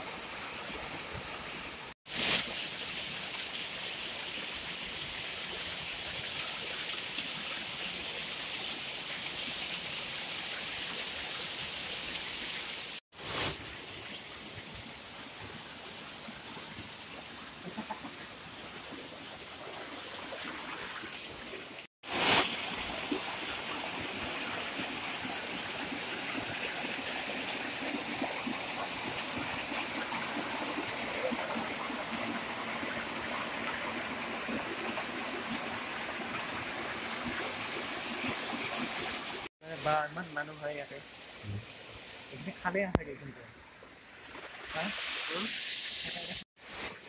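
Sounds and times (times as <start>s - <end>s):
water rushing over boulders: 0.0s - 40.7s.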